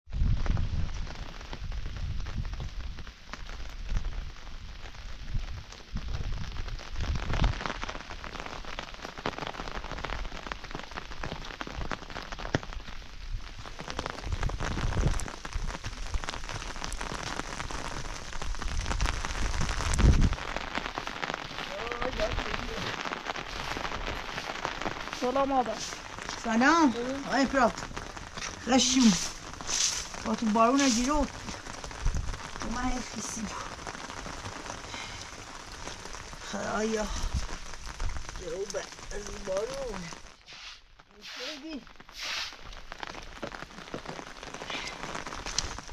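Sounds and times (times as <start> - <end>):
heavy rain falling: 0.1 - 45.9.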